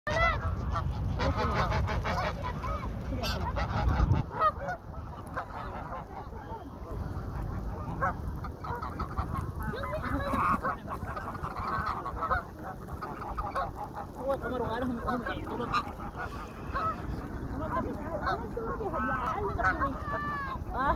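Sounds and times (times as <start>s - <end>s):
ducks calling: 0.1s - 20.9s.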